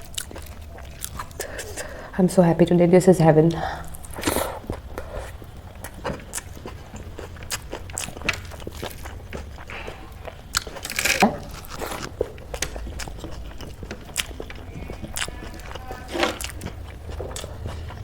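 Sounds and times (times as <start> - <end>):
person chewing crunchy food: 0.0 - 2.0, 3.8 - 18.0.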